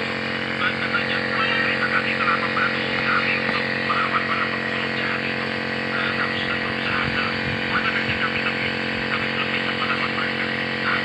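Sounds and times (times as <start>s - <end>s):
indistinct voices talking: 0.0s - 11.0s
steady machine hum: 0.0s - 11.0s.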